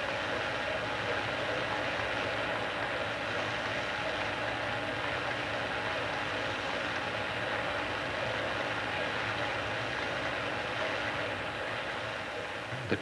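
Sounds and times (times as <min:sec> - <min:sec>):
gas burner jets roaring: 0:00.0 - 0:13.0.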